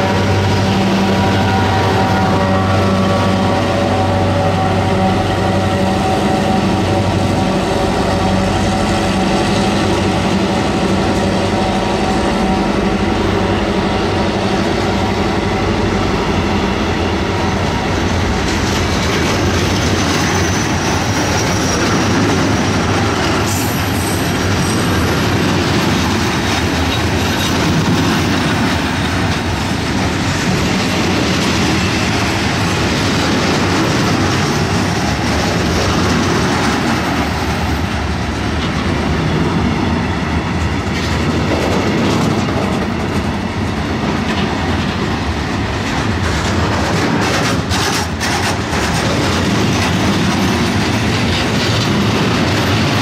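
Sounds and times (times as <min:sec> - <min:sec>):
diesel locomotive engine drone: 0:00.0 - 0:53.0
train wheel clatter: 0:05.4 - 0:53.0.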